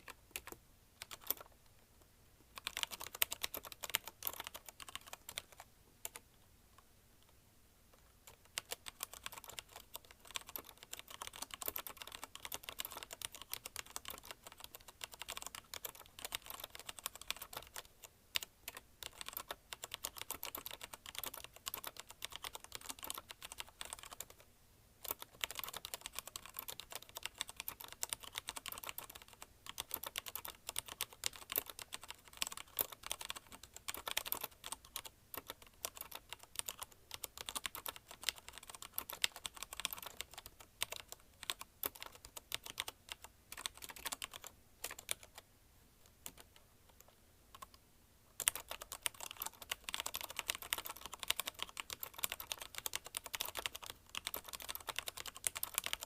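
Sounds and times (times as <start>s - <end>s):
fast typing on mechanical keyboard: 0.0s - 1.5s, 2.6s - 6.2s, 8.2s - 24.4s, 25.0s - 45.4s, 46.2s - 46.5s, 48.4s - 56.0s.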